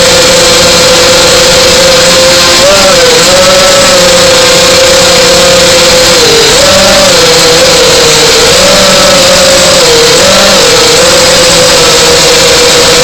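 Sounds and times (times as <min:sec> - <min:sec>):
model airplane motor running: 0:00.0 - 0:13.0.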